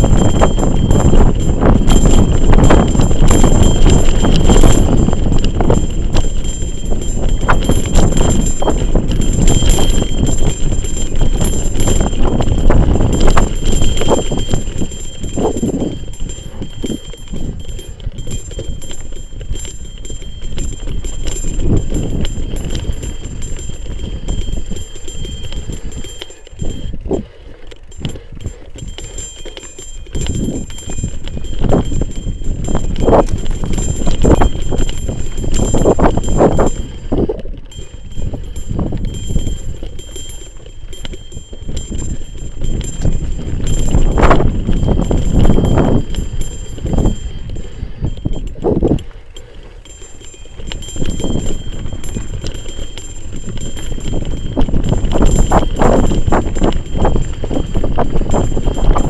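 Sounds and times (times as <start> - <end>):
mountain bike rattling over dirt: 0.0 - 59.0
wind buffeting microphone: 0.0 - 59.0.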